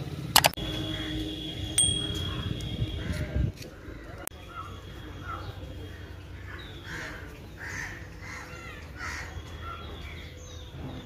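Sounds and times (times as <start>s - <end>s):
bird harsh calls: 2.0s - 11.0s.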